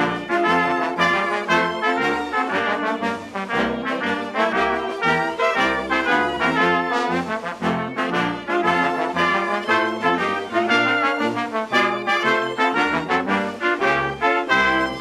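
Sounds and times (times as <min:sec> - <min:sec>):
brass music with beat: 0:00.0 - 0:15.0.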